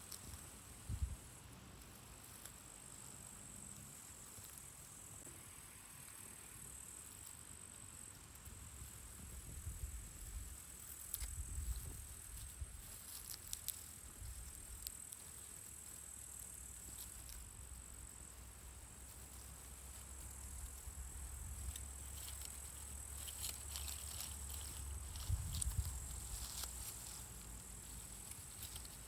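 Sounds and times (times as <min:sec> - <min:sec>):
faint clicks and rustles: 0:00.0 - 0:05.3, 0:05.9 - 0:29.0
crickets trilling: 0:00.0 - 0:29.0.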